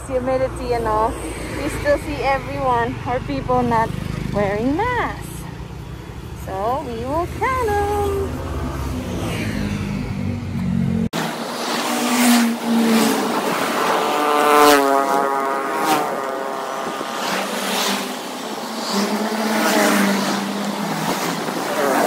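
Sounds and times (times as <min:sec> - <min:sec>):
cars and van passing: 0:00.0 - 0:22.0.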